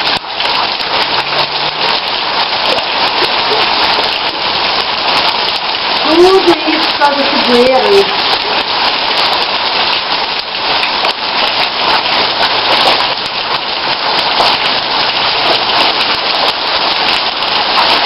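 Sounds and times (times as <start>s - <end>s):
heavy rain hiss: 0.0s - 18.0s
raindrops ticking on surfaces: 0.0s - 18.0s.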